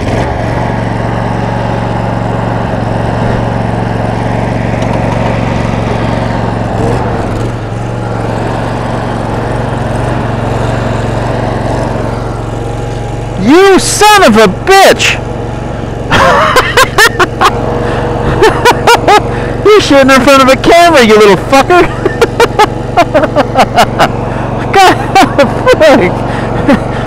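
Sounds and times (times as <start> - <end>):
lawn tractor engine running: 0.0 - 27.0.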